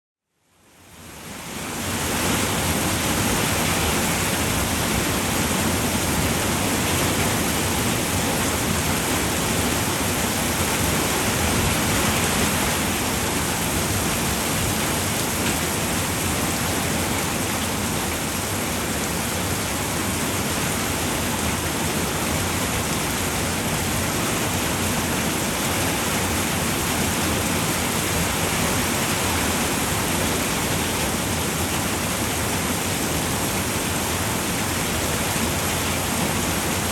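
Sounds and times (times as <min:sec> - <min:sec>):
rain falling on a roof: 0:00.6 - 0:36.9.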